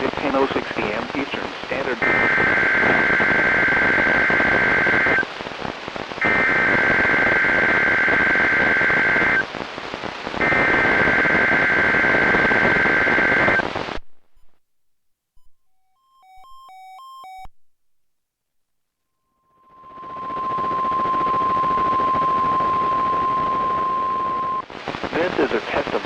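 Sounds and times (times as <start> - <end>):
radio hiss and static: 0.0 - 14.6, 19.6 - 26.0.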